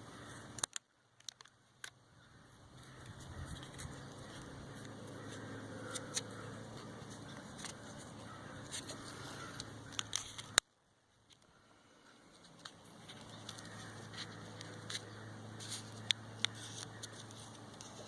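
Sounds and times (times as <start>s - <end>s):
low steady hum: 0.0s - 18.0s
small handling clicks and rustles: 0.3s - 2.0s, 2.8s - 18.0s.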